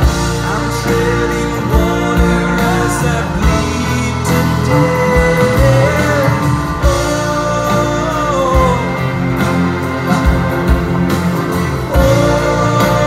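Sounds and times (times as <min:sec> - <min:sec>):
acoustic guitar: 0:00.0 - 0:13.0
live band with strings: 0:00.0 - 0:13.0
man singing: 0:00.0 - 0:13.0.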